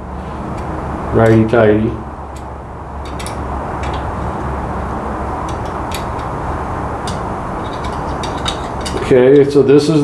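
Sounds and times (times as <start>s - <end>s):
low rumbling: 0.0s - 9.2s.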